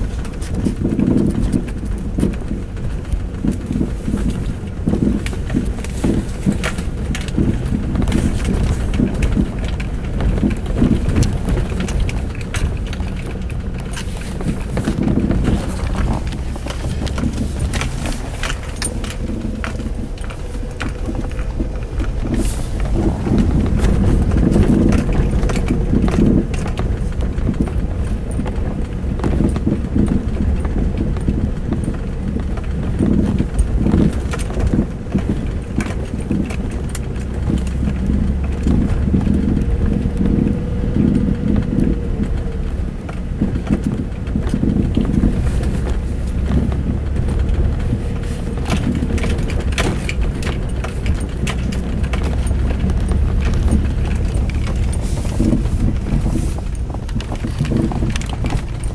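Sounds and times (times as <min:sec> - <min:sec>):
low vehicle rumble: 0:00.0 - 0:58.9
suspension knocking: 0:00.0 - 0:58.9.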